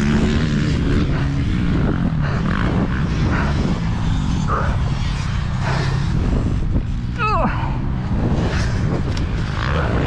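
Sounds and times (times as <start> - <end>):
dirt bike engine running: 0.0 - 10.0
wind rushing: 0.0 - 10.0.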